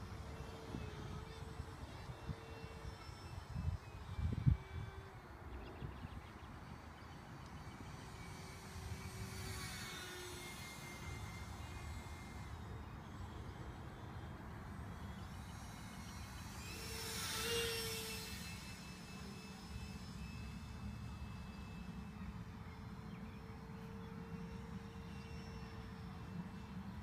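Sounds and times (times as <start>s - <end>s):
model jet fan whining: 0.0s - 27.0s.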